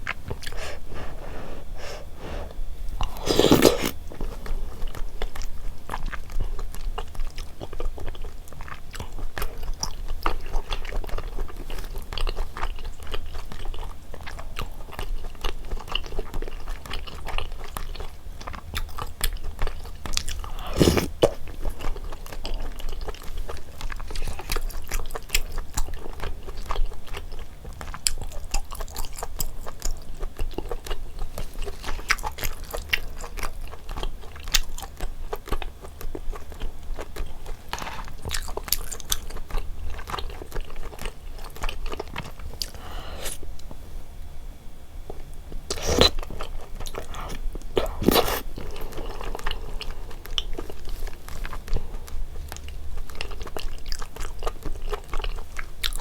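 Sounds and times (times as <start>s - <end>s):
person chewing food: 0.0s - 43.8s, 45.1s - 56.0s
low steady hum: 0.0s - 56.0s.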